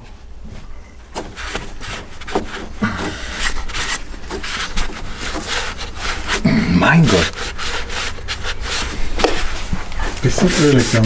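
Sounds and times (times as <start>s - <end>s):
rag wiping engine parts: 1.1s - 11.0s.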